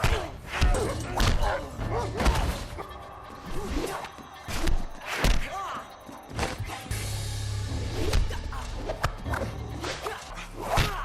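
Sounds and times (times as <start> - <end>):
film score music: 0.0 - 11.0.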